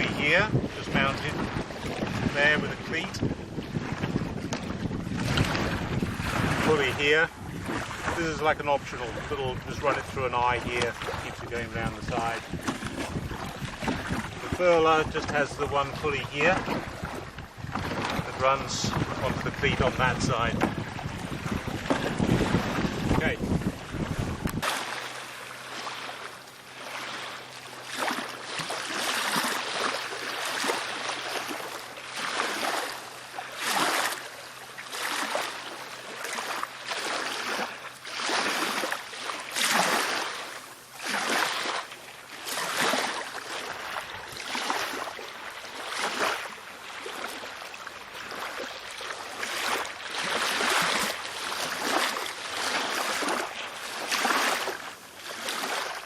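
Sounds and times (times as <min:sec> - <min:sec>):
water splashing against kayak hull: 0:00.0 - 0:56.0.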